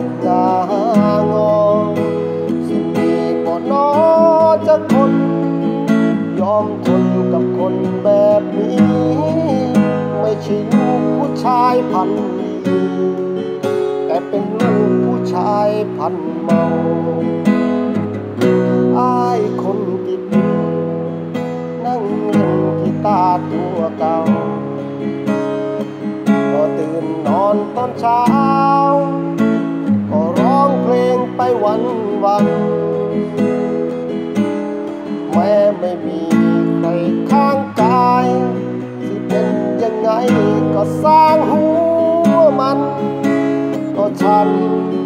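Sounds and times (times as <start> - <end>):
acoustic guitar strumming: 0.0 - 45.0
man singing: 0.0 - 45.0.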